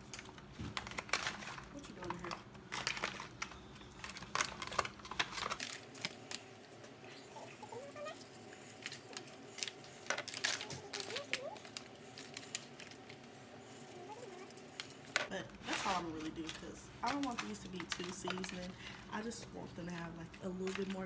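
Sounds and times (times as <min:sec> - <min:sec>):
foil tray crinkling: 0:00.0 - 0:21.0.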